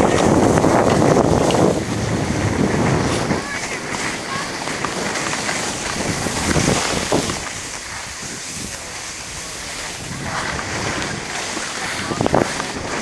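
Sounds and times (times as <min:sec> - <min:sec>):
skis scraping over packed snow: 0:00.0 - 0:13.0
wind on microphone: 0:00.0 - 0:13.0.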